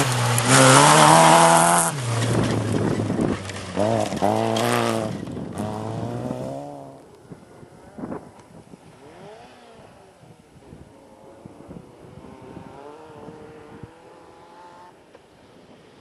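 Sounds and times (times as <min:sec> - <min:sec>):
distant car engine at full throttle: 0:00.0 - 0:16.0
wind buffeting microphone: 0:00.5 - 0:14.2.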